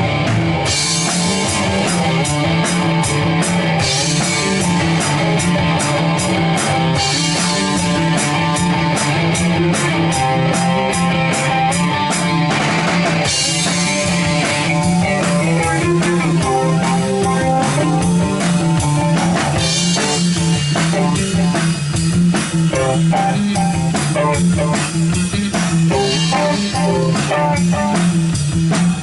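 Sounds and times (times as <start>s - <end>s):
bass guitar: 0.0s - 29.0s
drum kit beat on cymbals: 0.0s - 29.0s
electric guitar: 0.0s - 29.0s.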